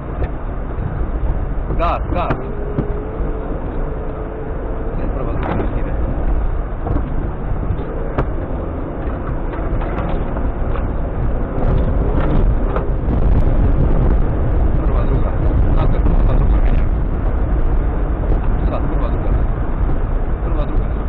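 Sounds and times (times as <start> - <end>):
body and suspension rattles: 0.0 - 21.0
engine running under load: 0.0 - 21.0.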